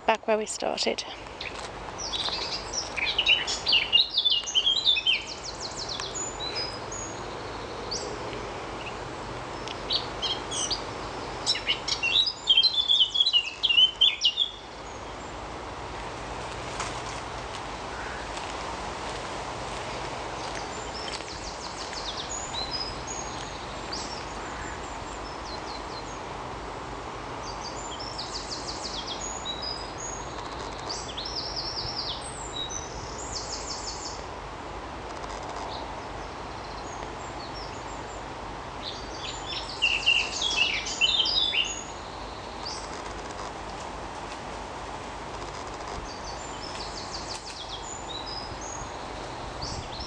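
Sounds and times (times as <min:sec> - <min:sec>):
songbirds singing: 0:00.0 - 0:15.4, 0:19.8 - 0:26.4, 0:27.4 - 0:34.3, 0:35.1 - 0:43.5, 0:45.4 - 0:50.0
distant road traffic hum: 0:00.0 - 0:50.0.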